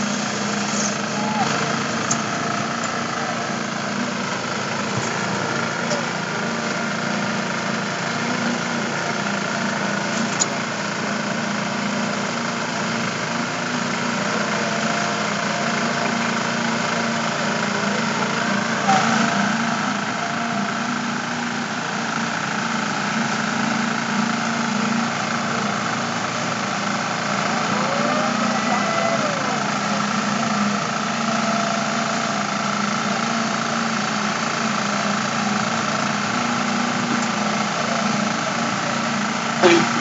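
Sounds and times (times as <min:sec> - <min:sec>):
machinery engine running: 0:00.0 - 0:40.0.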